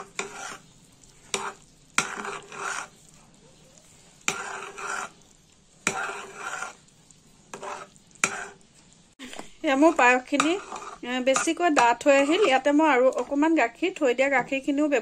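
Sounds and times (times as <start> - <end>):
metal spoon scraping a pan: 0.0 - 14.7.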